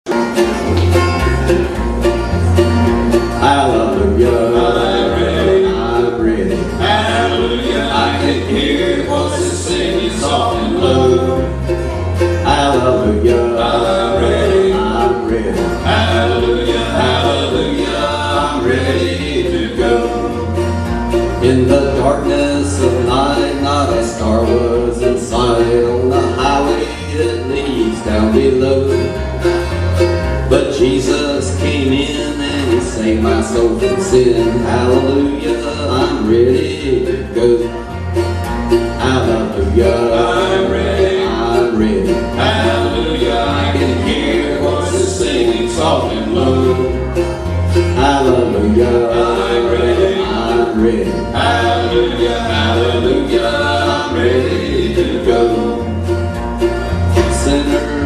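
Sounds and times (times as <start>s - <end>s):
banjo: 0.0s - 58.0s
guitar: 0.0s - 58.0s
bass line: 0.1s - 58.0s
voices singing: 2.4s - 29.2s, 30.4s - 58.0s.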